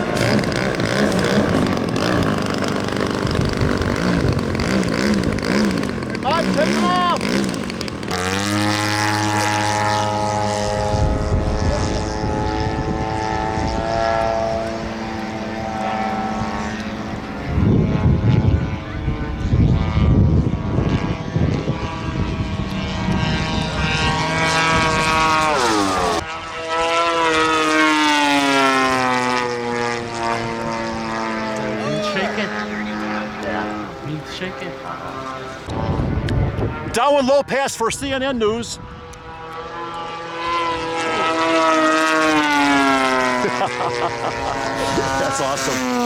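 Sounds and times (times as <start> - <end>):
wind on microphone: 0.0 - 37.2, 37.8 - 46.0
model airplane engines droning: 0.0 - 46.0.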